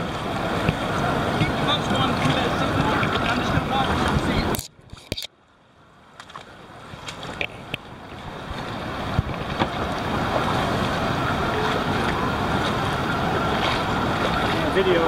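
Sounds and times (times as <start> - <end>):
wind on microphone: 0.0 - 5.0, 6.8 - 15.0
water rushing over rocks: 0.0 - 5.2, 6.2 - 15.0.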